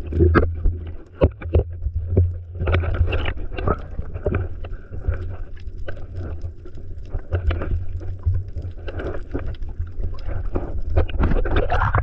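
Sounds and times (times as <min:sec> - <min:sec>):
sea water sloshing and splashing: 0:00.0 - 0:12.0.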